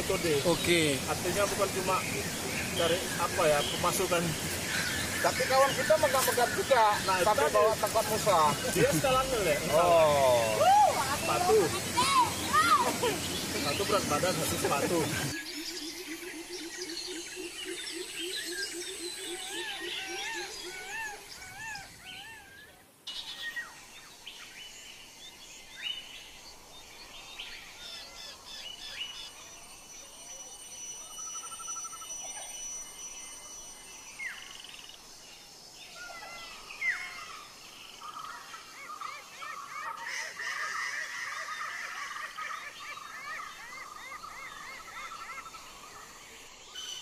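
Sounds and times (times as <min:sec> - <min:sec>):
birds warbling: 0:00.0 - 0:23.8, 0:25.4 - 0:47.0.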